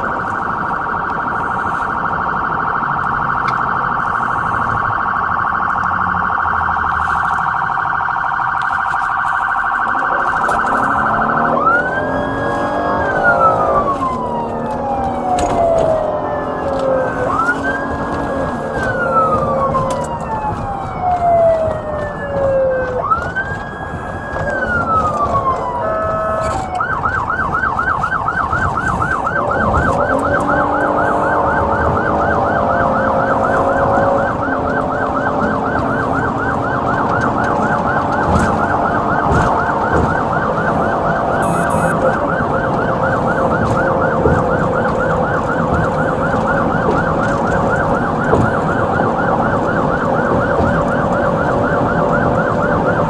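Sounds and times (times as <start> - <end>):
police siren wailing and yelping: 0.0 - 53.0.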